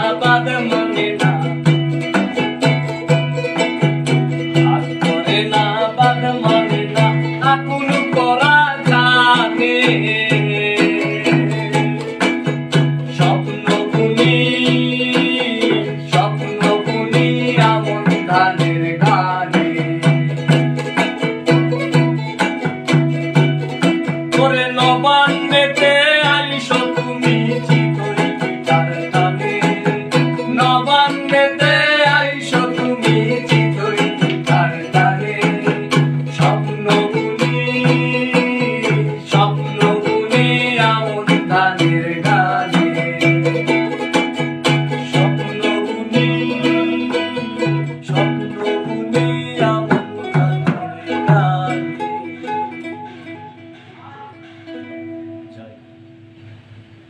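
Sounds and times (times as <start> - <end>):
frame drum beat: 0.0 - 53.9
man singing folk song: 0.0 - 54.8
ukulele strumming: 0.0 - 57.0.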